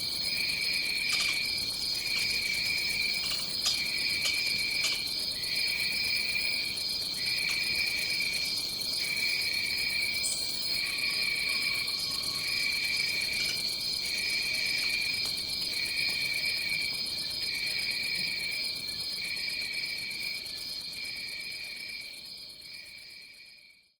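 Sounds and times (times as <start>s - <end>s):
lower insect trill: 0.0s - 23.9s
steady high insect trill: 0.0s - 24.0s.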